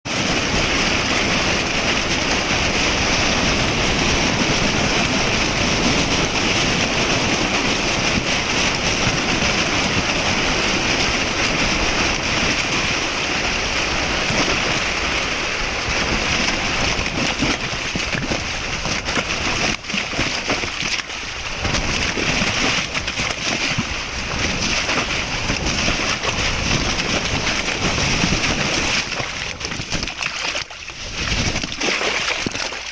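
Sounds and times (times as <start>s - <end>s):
water rushing and splashing: 0.1s - 32.9s.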